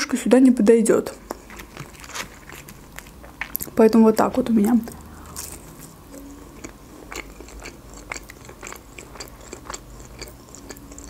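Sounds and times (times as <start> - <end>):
person crunching food: 1.2 - 3.8, 4.6 - 11.0.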